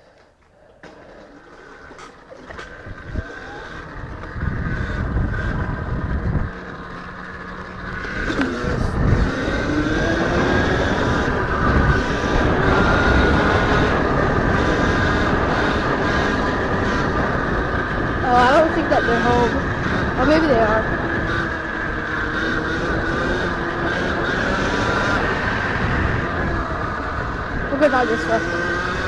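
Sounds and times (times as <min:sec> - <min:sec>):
electric motor whine: 0:02.5 - 0:29.0
wind rumble on microphone: 0:02.5 - 0:29.0.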